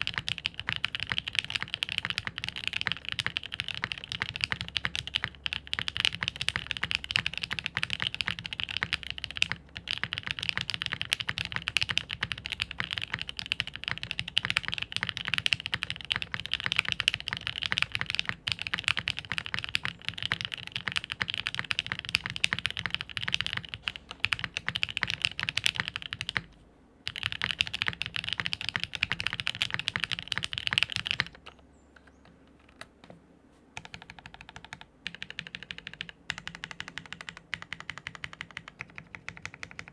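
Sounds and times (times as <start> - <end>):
mechanical keyboard typing: 0.0 - 26.5, 27.1 - 33.2, 33.8 - 39.9.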